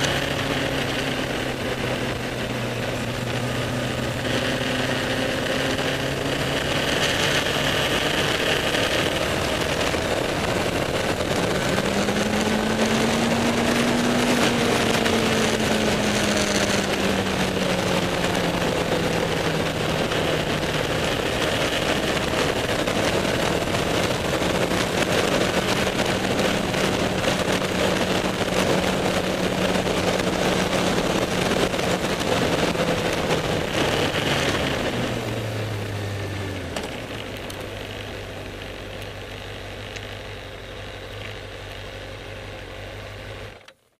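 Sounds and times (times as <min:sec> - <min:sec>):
motorcycle engine running: 0:00.0 - 0:43.9
wind and road noise: 0:00.0 - 0:44.0.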